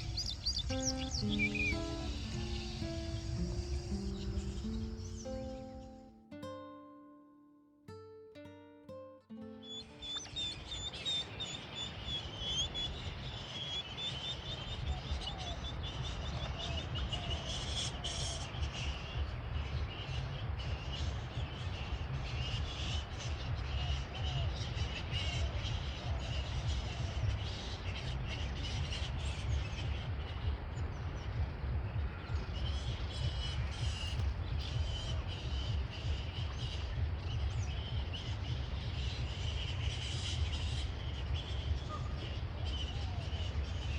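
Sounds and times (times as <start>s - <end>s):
birds chirping: 0.0s - 6.6s, 9.3s - 43.9s.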